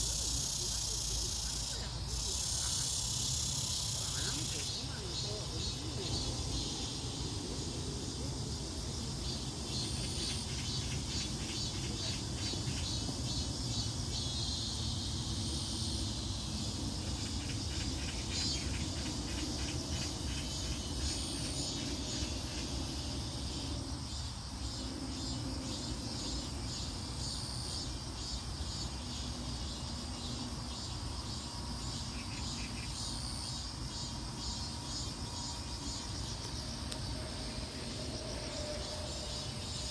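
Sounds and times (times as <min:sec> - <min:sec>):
insects chirping in trills: 0:00.0 - 0:39.9.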